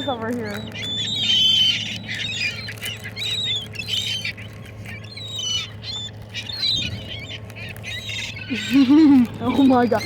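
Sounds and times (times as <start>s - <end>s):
seagulls calling: 0.0s - 10.0s.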